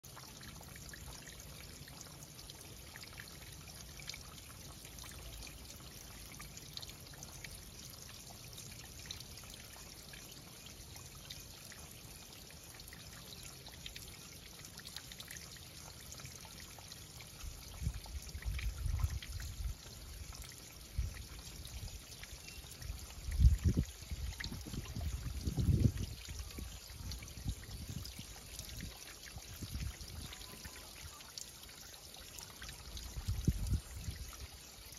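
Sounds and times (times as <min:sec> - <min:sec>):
water trickling and dripping: 0:00.0 - 0:34.9.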